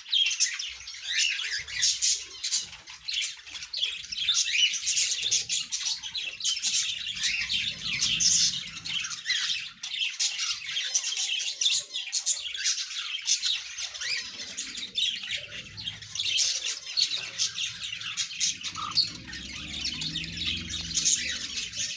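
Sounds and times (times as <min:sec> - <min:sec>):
caged birds chirping and squawking: 0:00.0 - 0:21.9.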